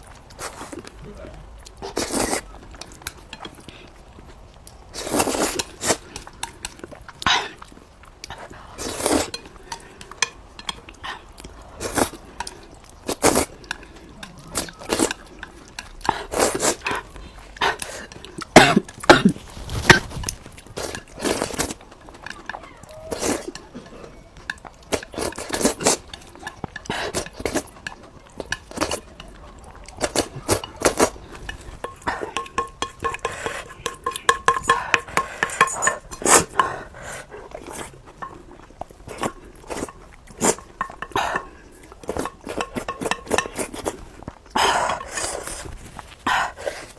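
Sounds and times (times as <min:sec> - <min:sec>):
chewing: 0:00.0 - 0:46.9
utensils clinking against dishes: 0:01.8 - 0:03.8, 0:08.4 - 0:36.8, 0:37.6 - 0:45.7.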